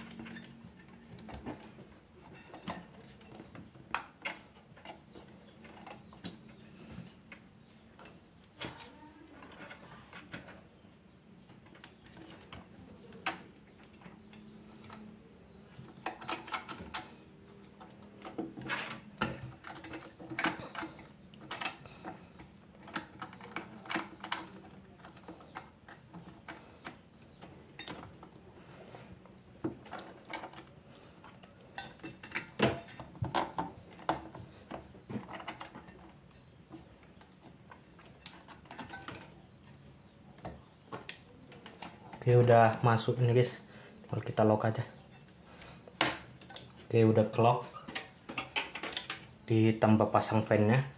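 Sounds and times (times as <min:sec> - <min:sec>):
clicks and scraping of plastic and metal: 0:00.0 - 0:49.5.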